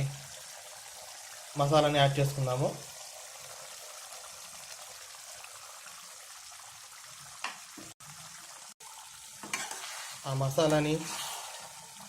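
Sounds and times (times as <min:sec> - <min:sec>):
curry bubbling in a pan: 0:00.0 - 0:12.0.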